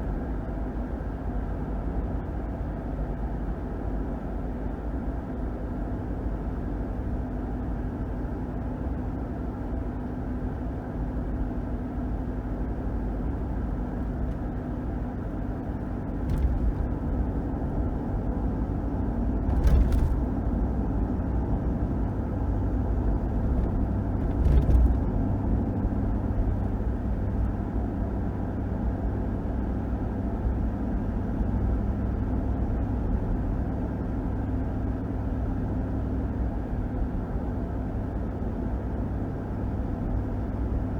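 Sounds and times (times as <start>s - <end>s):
engine and road drone: 7.7s - 40.9s.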